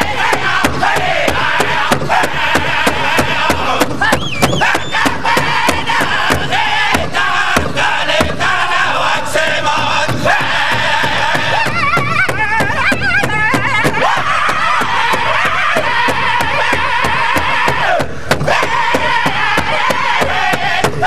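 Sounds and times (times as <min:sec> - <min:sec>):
big drum beating fast: 0:00.0 - 0:21.0
group singing in high voices: 0:00.0 - 0:21.0.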